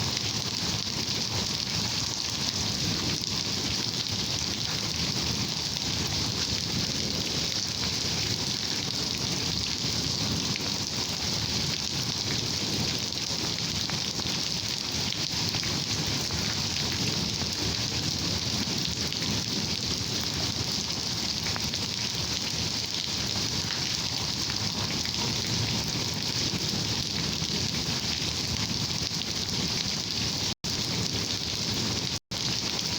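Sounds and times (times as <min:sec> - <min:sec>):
steady rain hissing: 0:00.0 - 0:32.9.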